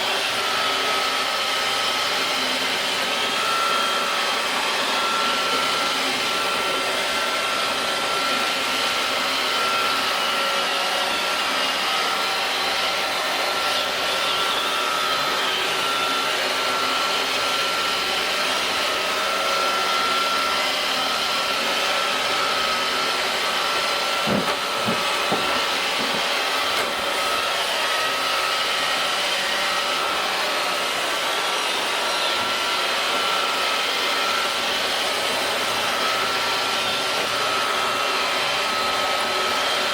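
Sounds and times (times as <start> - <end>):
robot vacuum motor whir: 0.0 - 39.9.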